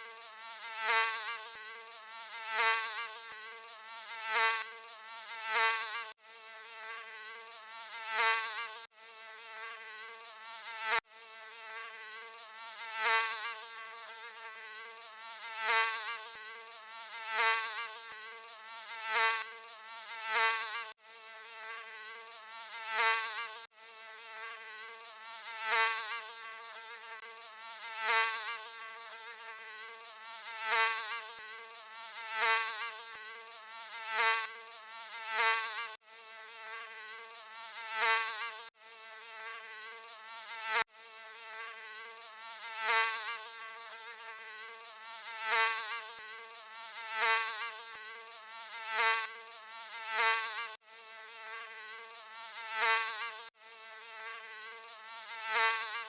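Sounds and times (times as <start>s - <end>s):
mosquito buzzing: 0.0s - 56.0s.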